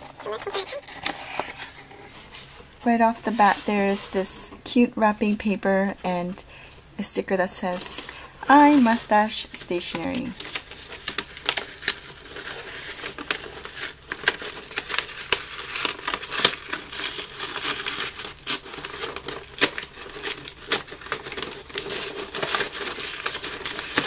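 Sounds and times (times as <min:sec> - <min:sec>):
paper wrapping crinkling: 0:00.0 - 0:04.6, 0:05.2 - 0:24.0.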